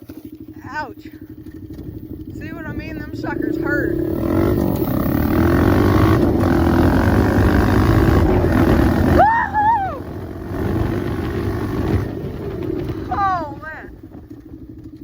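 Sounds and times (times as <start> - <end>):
dirt bike engine revving: 0.0 - 15.0
rider whooping: 0.6 - 14.8.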